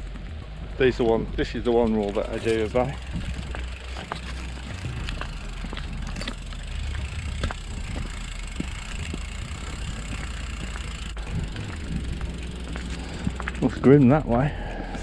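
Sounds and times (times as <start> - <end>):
bicycle clicks and taps: 0.0 - 15.0
wind rumbling on microphone: 0.0 - 15.0.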